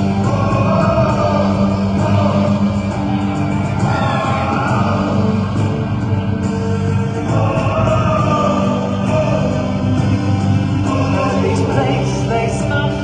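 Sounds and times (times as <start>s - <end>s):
choir-like singing: 0.0s - 13.0s
sustained instrumental chords: 0.0s - 13.0s.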